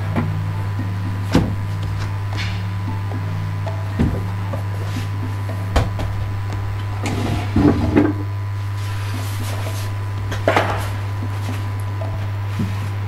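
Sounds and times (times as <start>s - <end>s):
wooden boxes knocking and clattering: 0.0s - 8.4s, 9.8s - 12.8s
steady low hum: 0.0s - 13.0s.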